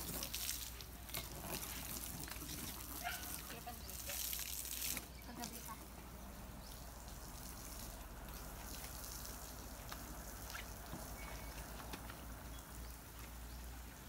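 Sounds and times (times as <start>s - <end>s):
garden hose spraying water: 0.0s - 14.0s
water splashing and dripping: 0.0s - 14.0s.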